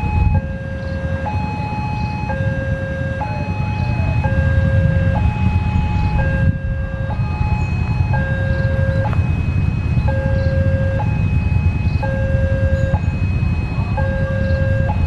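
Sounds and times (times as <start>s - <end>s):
steady low rumble: 0.0s - 15.0s
two-tone crossing alarm: 0.0s - 15.0s.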